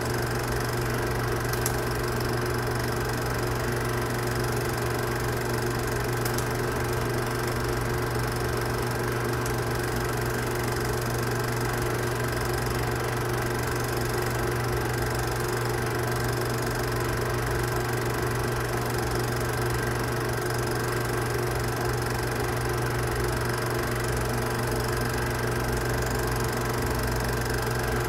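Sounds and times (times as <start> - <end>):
film projector humming: 0.0 - 28.0.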